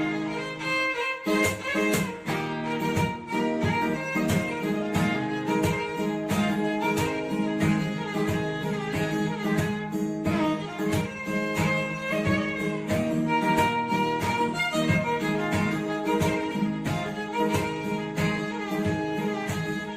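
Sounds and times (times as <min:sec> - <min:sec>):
bowed string melody: 0:00.0 - 0:19.9
plucked guitar: 0:00.0 - 0:19.9
steady beat: 0:00.0 - 0:19.9.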